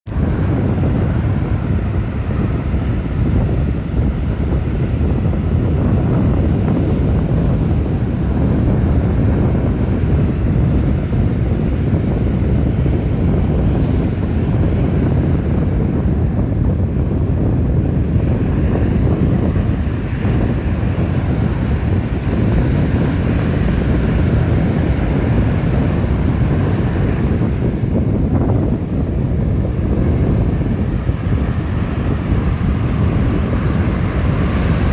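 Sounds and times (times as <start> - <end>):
wind blowing across microphone: 0.1 - 34.9.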